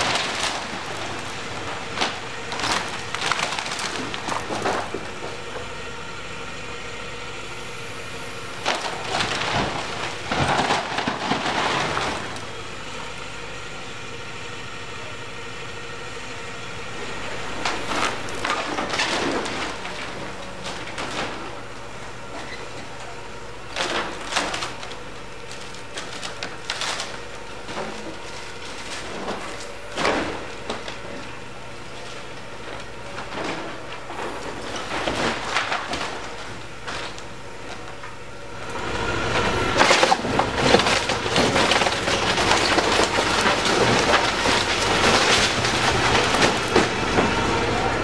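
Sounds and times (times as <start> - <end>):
wood cracking and crashing: 0.0 - 5.8, 8.2 - 13.3, 17.4 - 38.3, 39.2 - 48.0
diesel engine running: 0.0 - 48.0.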